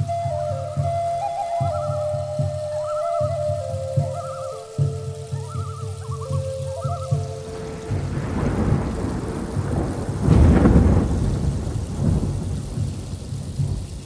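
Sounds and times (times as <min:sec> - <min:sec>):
steady rain: 0:00.0 - 0:14.0
thunder rolling: 0:00.0 - 0:14.0.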